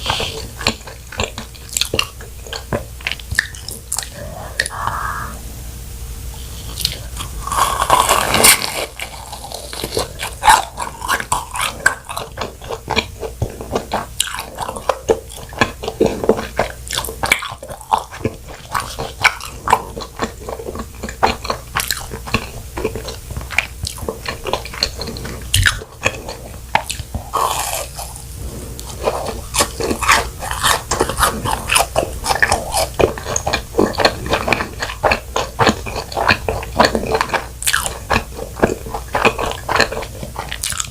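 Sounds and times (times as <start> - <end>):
wet chewing with crackles: 0.0 - 5.4, 6.4 - 40.9
biting crisp fried food: 6.7 - 40.9.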